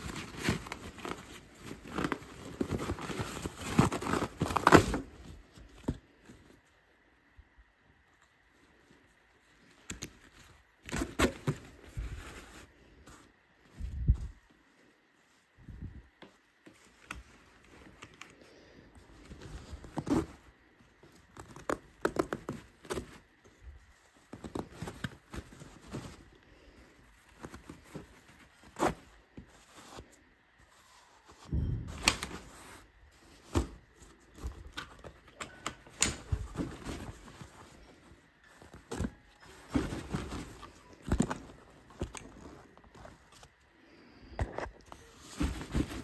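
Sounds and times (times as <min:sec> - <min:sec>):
fabric and mattress rustling: 0:00.0 - 0:46.0.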